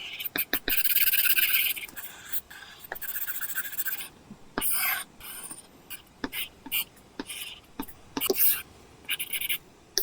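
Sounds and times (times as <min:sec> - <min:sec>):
stylus scratching on screen: 0:00.0 - 0:09.6.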